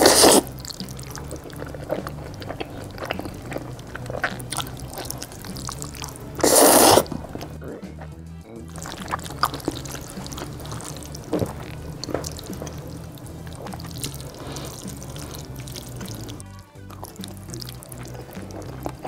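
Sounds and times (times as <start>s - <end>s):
wet slurping of noodles: 0.0s - 7.5s, 8.7s - 19.0s
background music with bass line: 0.0s - 19.0s.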